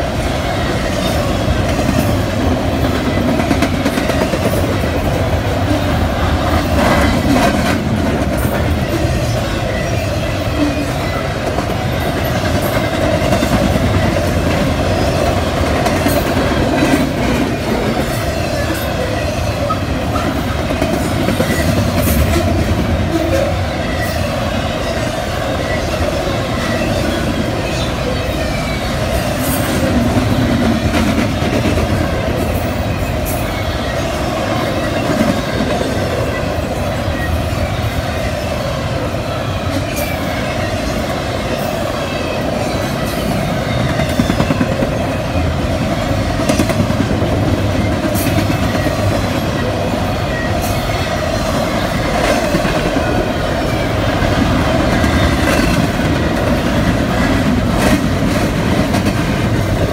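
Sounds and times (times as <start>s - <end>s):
clicks and clanks of rail cars: 0.0s - 59.9s
train wheels rumbling on rails: 0.0s - 59.9s.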